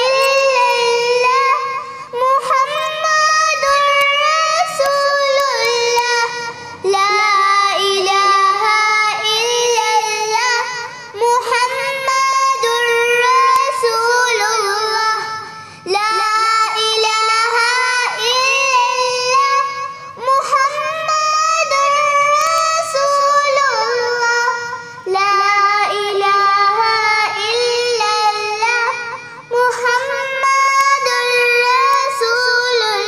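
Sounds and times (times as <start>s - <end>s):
child singing: 0.0s - 33.0s.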